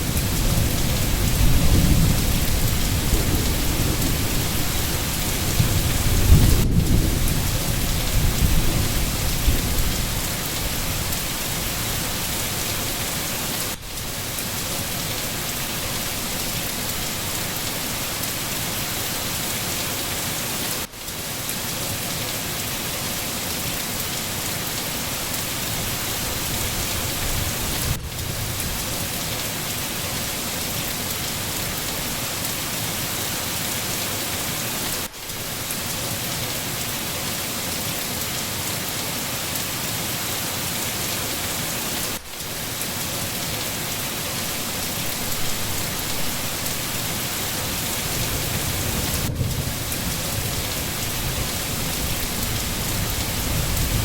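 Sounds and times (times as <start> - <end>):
dense rainfall hissing: 0.0 - 54.0.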